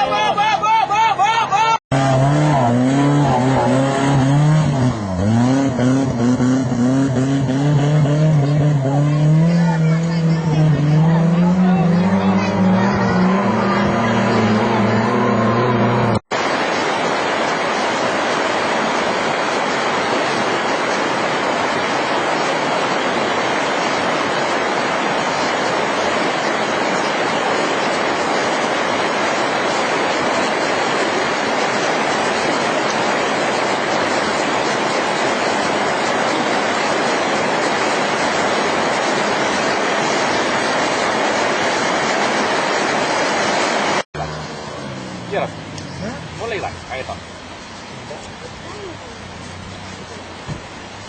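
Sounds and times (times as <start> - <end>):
steady rushing noise: 0.0 - 51.0.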